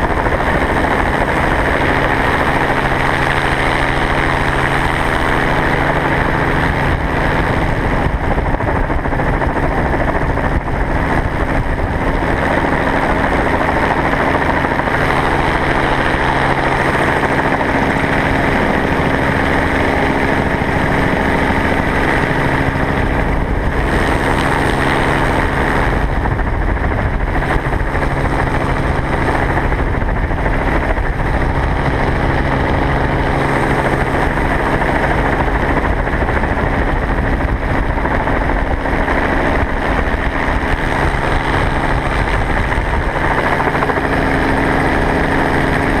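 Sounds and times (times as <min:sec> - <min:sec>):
helicopter engine and rotor drone: 0:00.0 - 0:46.0
rushing wind: 0:00.0 - 0:46.0.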